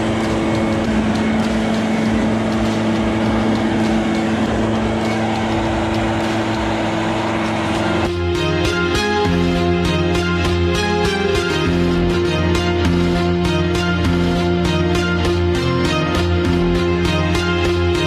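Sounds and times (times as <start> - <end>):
leaf blower blowing snow: 0.0 - 16.2
music: 0.0 - 18.0.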